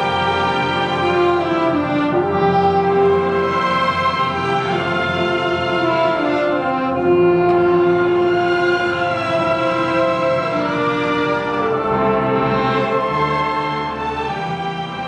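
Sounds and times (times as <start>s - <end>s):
brass chords: 0.0s - 15.0s
orchestra playing: 0.0s - 15.0s.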